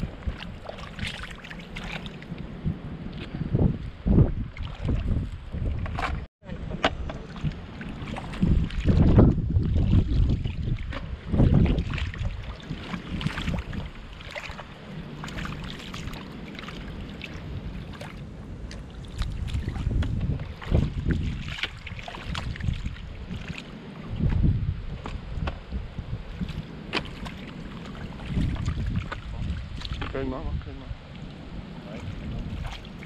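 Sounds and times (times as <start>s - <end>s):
splashing in shallow water over mud: 0.0s - 33.0s
wind rumbling on microphone: 0.0s - 33.0s.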